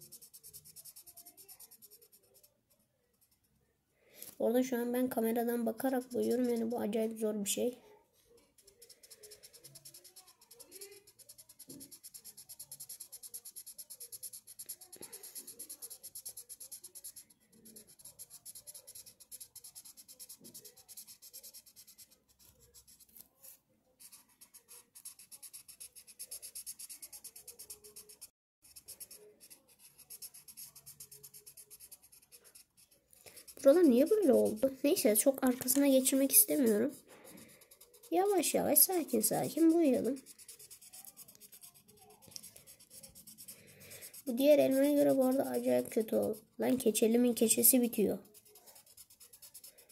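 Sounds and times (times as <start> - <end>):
marker scratching on paper: 0.0 - 3.5, 4.2 - 7.2, 8.3 - 49.9.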